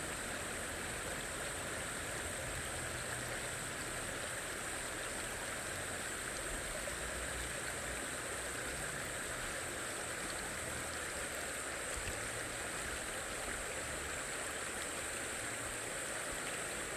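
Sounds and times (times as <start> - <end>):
stream flowing over gravel: 0.0 - 16.9.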